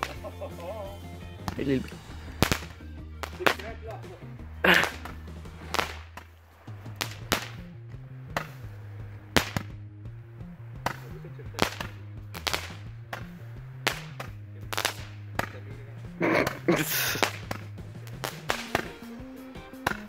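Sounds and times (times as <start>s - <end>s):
fireworks bangs and cracks: 0.0s - 9.8s, 10.6s - 20.0s
background music with bass: 0.0s - 20.0s.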